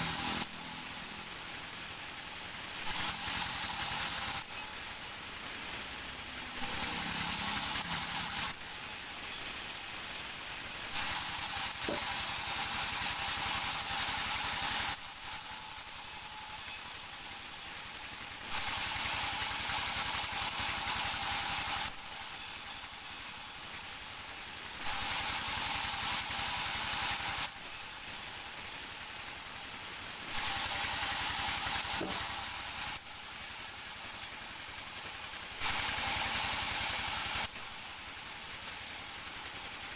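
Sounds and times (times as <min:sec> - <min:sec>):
loud hiss: 0:00.0 - 0:39.9
sawmill machinery running: 0:00.0 - 0:39.9.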